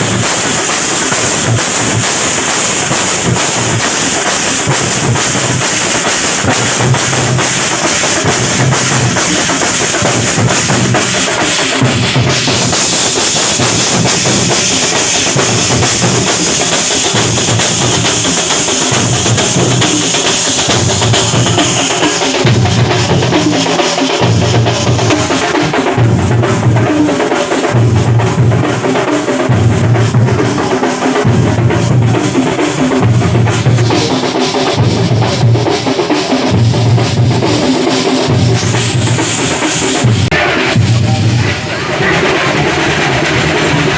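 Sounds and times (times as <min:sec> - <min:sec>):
drum ensemble playing: 0:00.0 - 0:43.9
low drum beat: 0:00.0 - 0:43.9.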